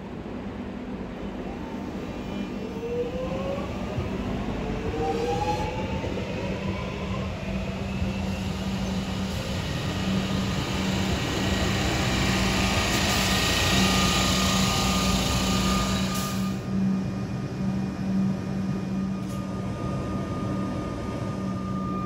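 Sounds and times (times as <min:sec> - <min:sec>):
train passing: 0:00.1 - 0:22.0.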